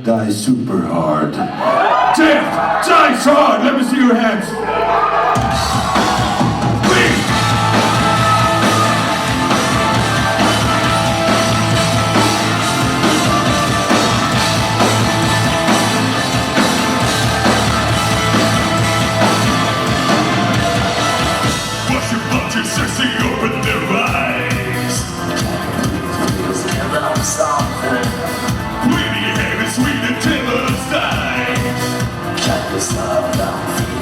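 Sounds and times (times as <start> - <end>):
distorted electric guitars: 4.4 - 34.0
drums: 4.4 - 34.0
bass guitar: 4.9 - 34.0.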